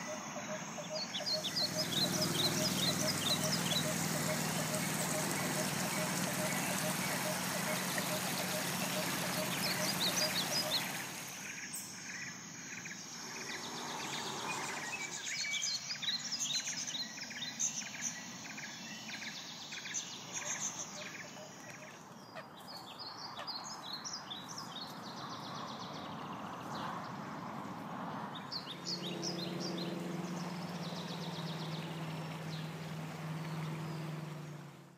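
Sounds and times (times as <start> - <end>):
small birds chirping: 0.0 - 27.2, 28.3 - 34.9
outdoor background hiss: 0.0 - 34.9.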